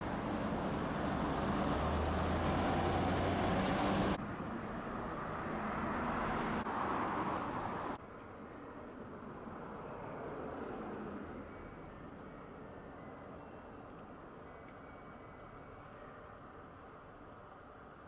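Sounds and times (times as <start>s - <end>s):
streetcar motor and wheels rumbling: 0.0s - 18.0s.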